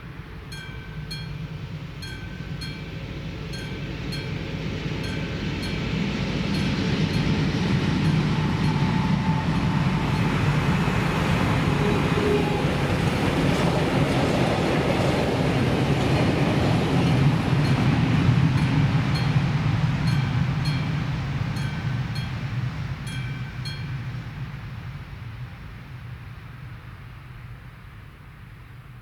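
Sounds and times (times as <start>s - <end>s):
freight train rumbling: 0.0s - 29.0s
crossing warning bell ringing: 0.3s - 24.4s.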